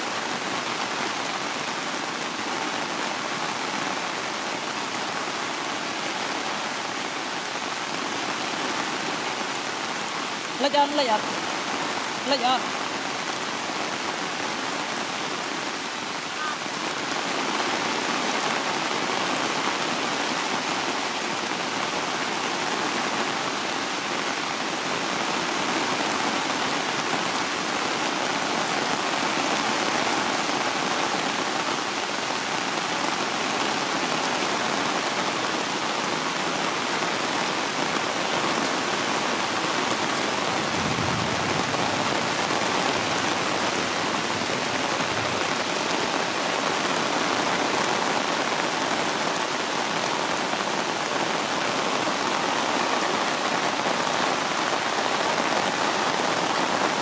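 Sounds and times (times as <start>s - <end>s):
heavy rain on wet concrete: 0.0s - 57.0s.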